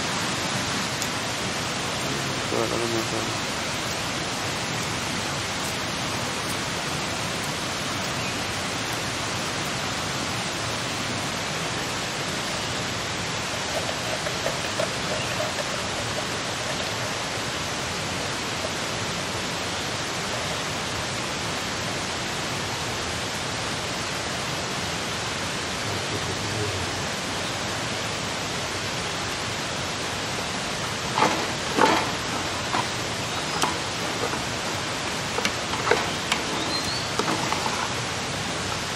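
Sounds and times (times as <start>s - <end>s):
steady rushing hiss: 0.0s - 38.9s.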